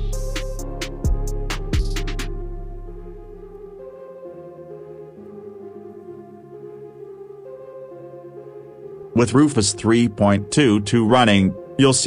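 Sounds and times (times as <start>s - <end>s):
ambient synth pad music: 2.2s - 12.0s.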